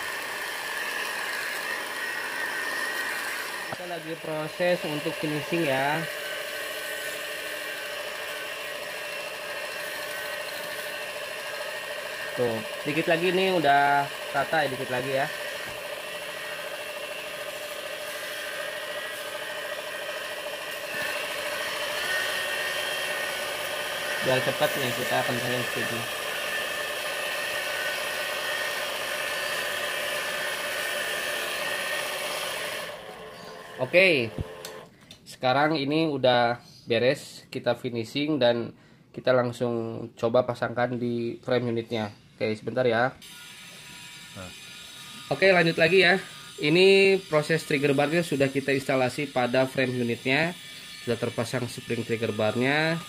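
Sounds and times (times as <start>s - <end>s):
belt sander motor whirring: 0.0s - 35.0s, 43.2s - 53.0s.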